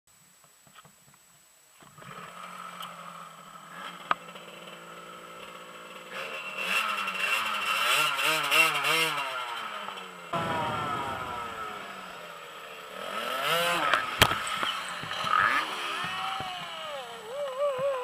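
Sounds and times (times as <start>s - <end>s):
small two-stroke engine revving: 1.8s - 18.0s.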